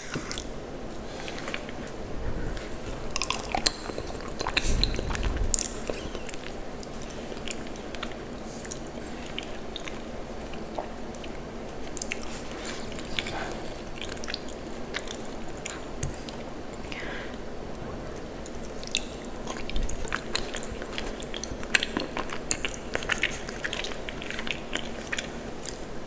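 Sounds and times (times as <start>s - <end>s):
chewing with wet mouth sounds: 0.0s - 26.0s.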